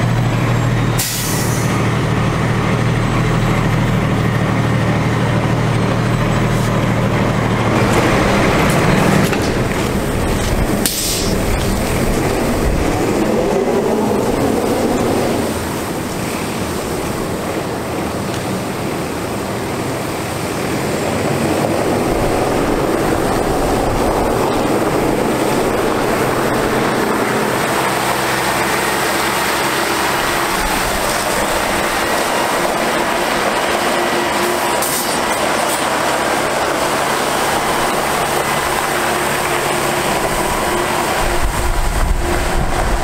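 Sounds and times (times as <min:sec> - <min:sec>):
diesel engine running: 0:00.0 - 0:43.0
water spraying on gravel: 0:07.8 - 0:43.0.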